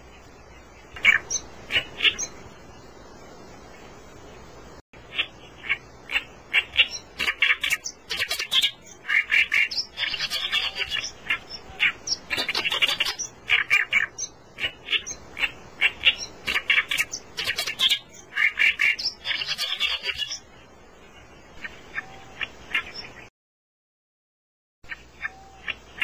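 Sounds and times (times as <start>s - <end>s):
reed warbler chattering song: 0.0s - 23.3s, 24.9s - 26.0s.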